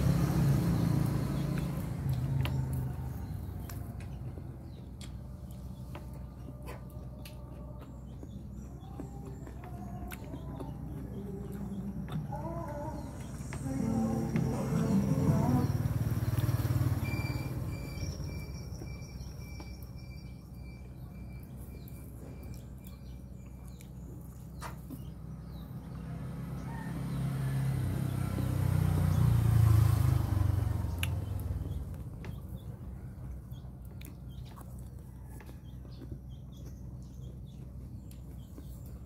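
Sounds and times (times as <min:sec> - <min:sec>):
vehicle passing by: 0:00.0 - 0:06.8, 0:09.2 - 0:19.4, 0:23.7 - 0:39.0.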